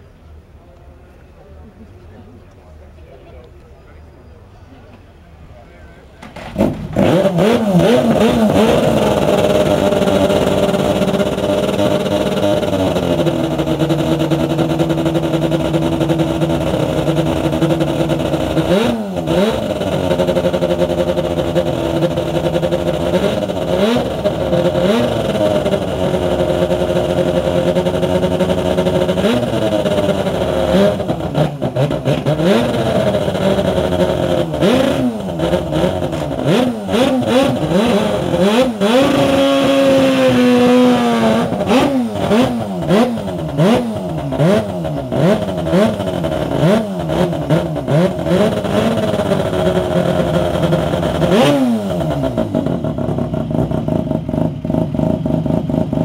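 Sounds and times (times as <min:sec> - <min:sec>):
racing engine revving: 0:06.2 - 0:56.0.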